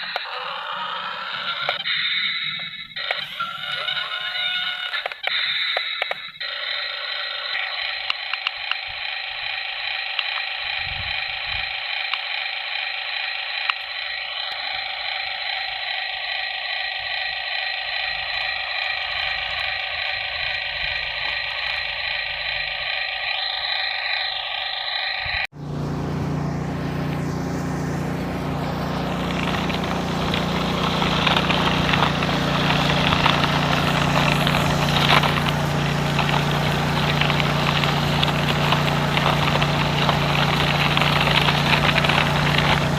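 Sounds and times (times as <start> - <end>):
tinny toy engine sound: 0.0 - 42.9
engine idling with low hum: 6.0 - 42.9.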